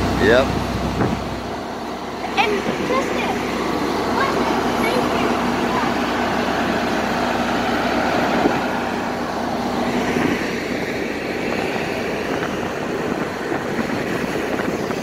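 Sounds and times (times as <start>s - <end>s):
ferry engine droning: 0.0s - 15.0s
water noise: 0.0s - 15.0s
wind: 0.0s - 15.0s.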